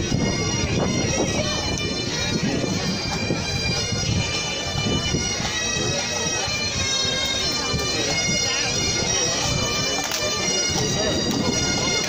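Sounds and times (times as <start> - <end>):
bagpipes playing over drone: 0.0 - 12.0
crowd talking: 0.0 - 12.0.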